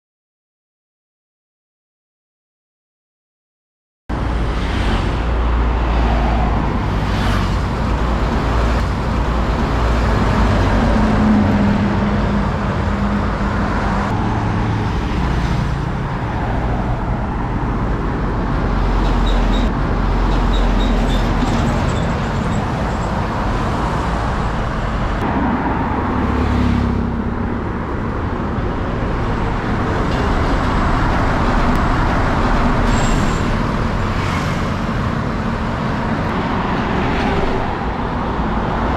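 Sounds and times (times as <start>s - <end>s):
heavy trucks passing: 4.1s - 38.9s.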